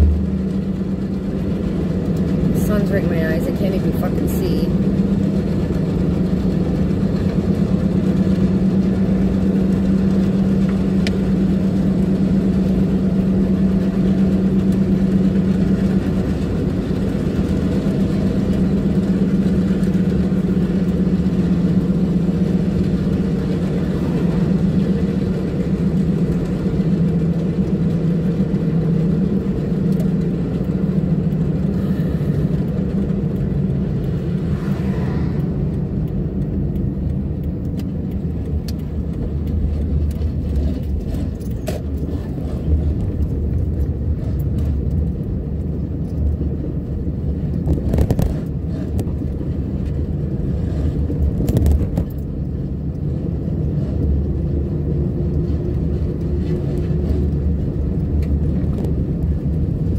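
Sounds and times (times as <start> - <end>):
car engine and road noise droning: 0.0 - 59.9.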